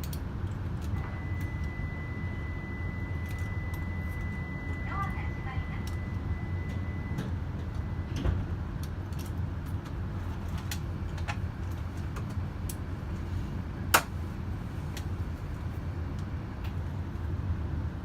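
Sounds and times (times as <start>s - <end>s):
train rumble inside passenger car: 0.0s - 18.0s.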